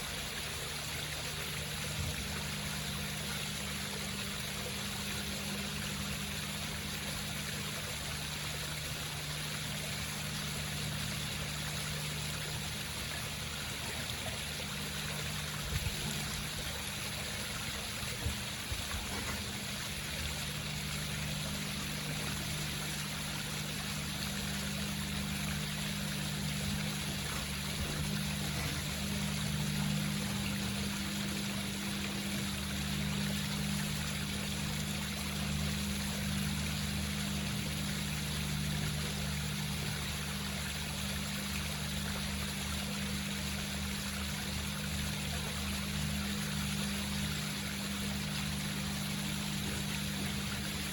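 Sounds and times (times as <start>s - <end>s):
steady low hum: 0.0s - 50.9s
water trickling down rocks: 0.0s - 50.9s.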